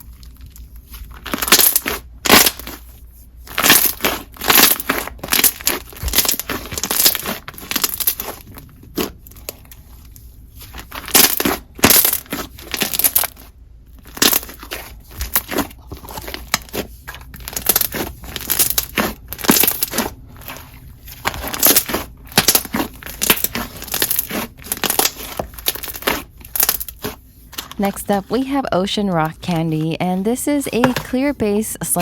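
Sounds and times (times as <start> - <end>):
slime squishing by hand: 0.0 - 31.4.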